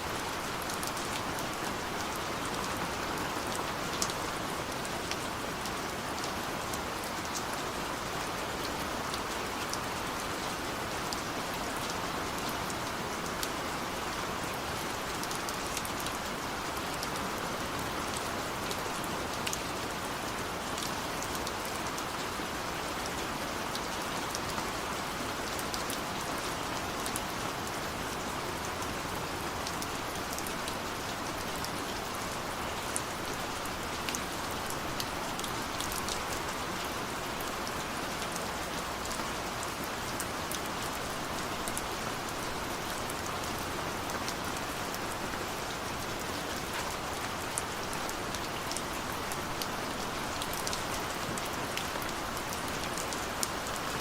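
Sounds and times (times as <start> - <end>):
rain pattering on a window: 0.0 - 54.0.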